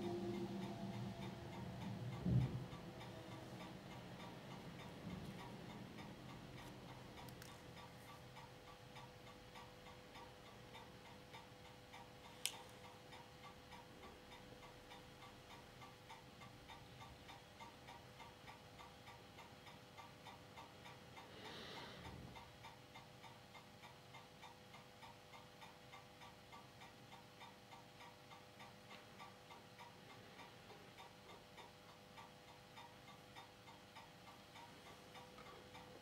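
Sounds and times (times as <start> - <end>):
faint regular ticking: 0.0 - 36.0
steady low hum: 0.0 - 36.0.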